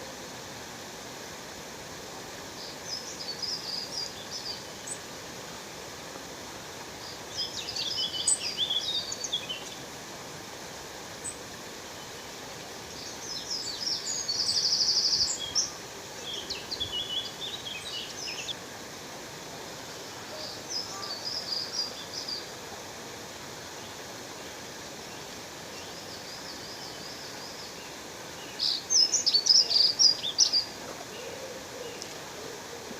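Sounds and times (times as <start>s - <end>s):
songbirds chirping: 2.2s - 32.9s.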